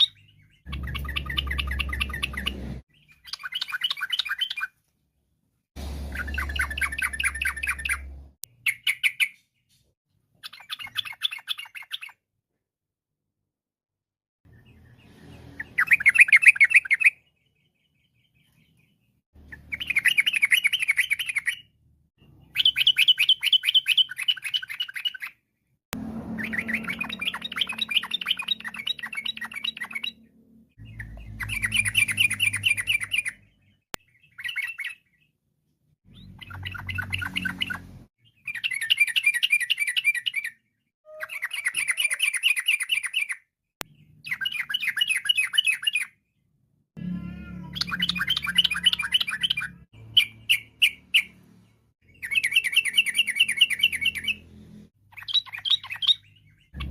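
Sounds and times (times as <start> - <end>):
bird chattering song: 0.0 - 4.8, 6.1 - 9.8, 10.4 - 12.2, 14.5 - 25.4, 26.3 - 35.4, 36.1 - 46.2, 47.6 - 54.5, 55.1 - 56.9.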